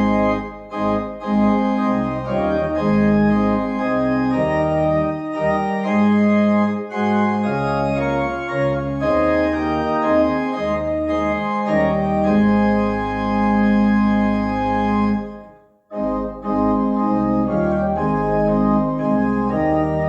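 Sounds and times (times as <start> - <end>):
organ playing chords: 0.0 - 20.0.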